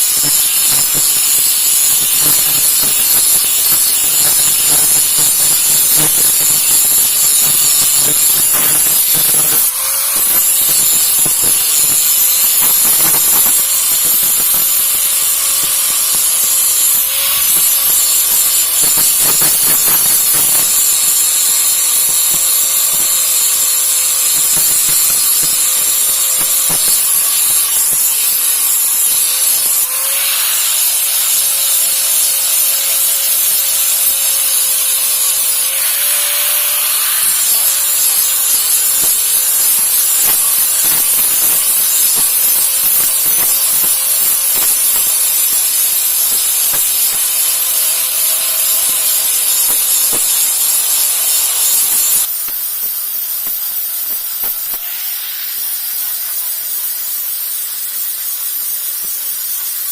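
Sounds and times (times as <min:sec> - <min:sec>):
grinder motor whine: 0:00.0 - 0:52.5
grinding hiss on steel: 0:00.0 - 0:59.9.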